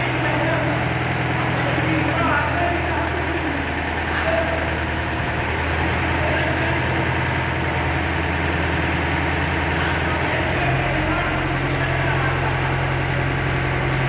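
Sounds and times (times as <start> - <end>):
heavy engine running: 0.0 - 14.0.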